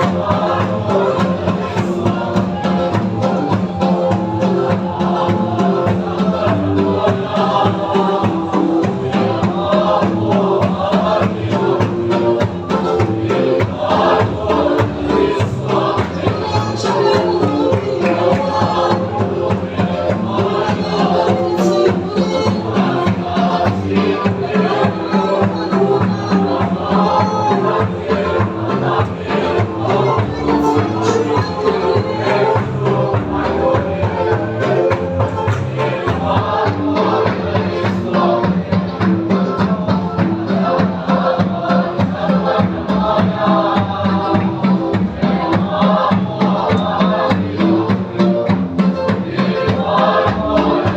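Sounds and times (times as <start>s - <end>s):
group singing gospel song: 0.0s - 50.9s
instrumental backing: 0.0s - 50.9s
steady percussion beat: 0.0s - 50.9s.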